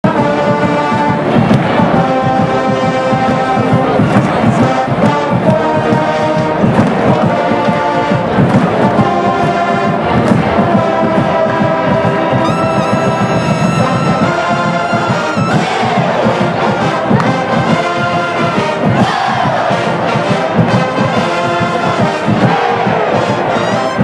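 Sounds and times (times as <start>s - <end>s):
marching band playing: 0.0s - 24.0s.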